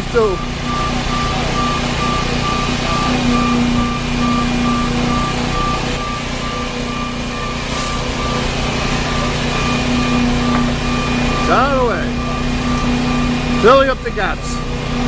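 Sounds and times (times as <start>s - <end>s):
truck backup alarm beeping: 0.0s - 15.0s
truck engine humming: 0.0s - 15.0s.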